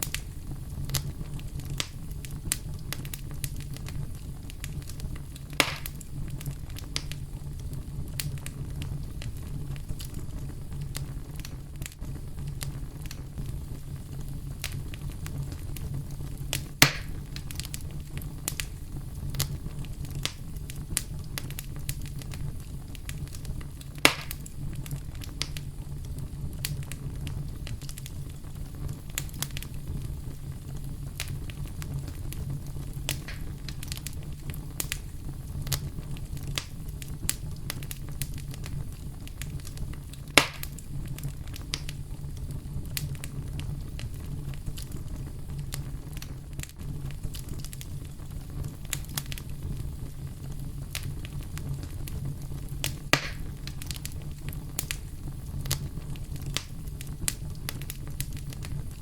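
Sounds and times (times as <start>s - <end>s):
campfire crackling and popping: 0.0s - 59.0s
low rumble of brown noise: 0.0s - 59.0s.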